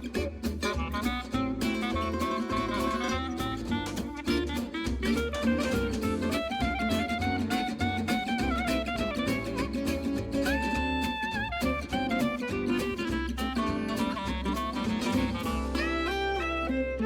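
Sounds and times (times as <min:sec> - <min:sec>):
plucked bass: 0:00.0 - 0:17.0
upbeat instrumental melody: 0:00.0 - 0:17.0.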